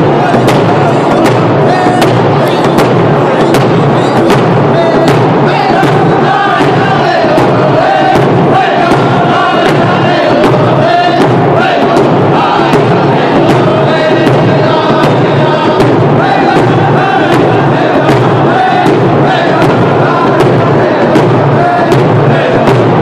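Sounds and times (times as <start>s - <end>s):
hand drums beating: 0.0s - 23.0s
men singing together: 0.0s - 23.0s.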